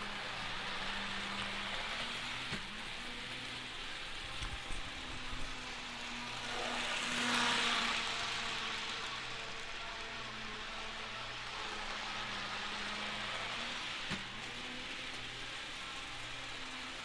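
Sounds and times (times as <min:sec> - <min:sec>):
model train motor hum: 0:00.0 - 0:17.0.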